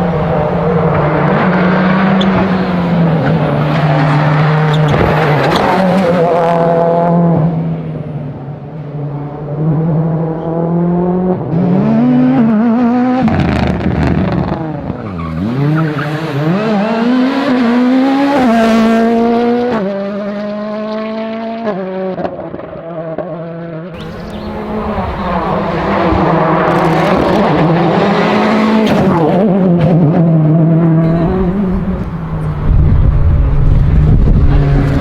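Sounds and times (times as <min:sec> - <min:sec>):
rally car engine revving hard: 0:00.0 - 0:07.8, 0:09.4 - 0:35.0.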